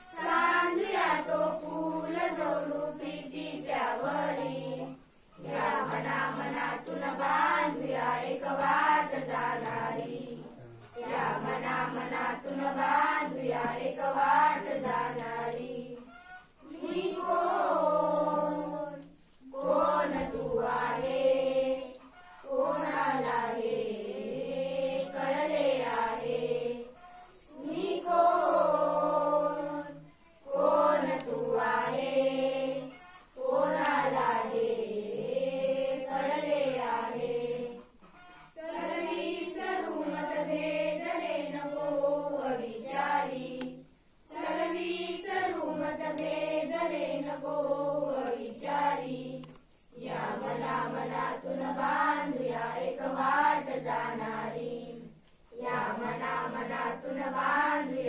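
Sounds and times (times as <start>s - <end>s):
girls singing together unaccompanied: 0.0s - 58.0s.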